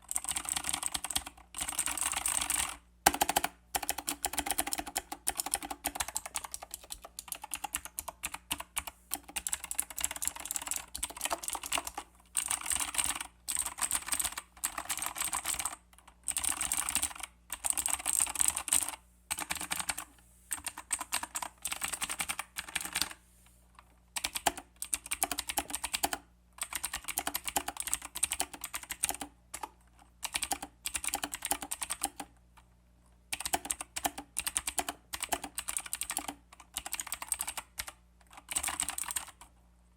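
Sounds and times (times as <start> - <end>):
mechanical keyboard typing clicks: 0.1 - 23.2, 24.2 - 32.4, 33.3 - 39.5.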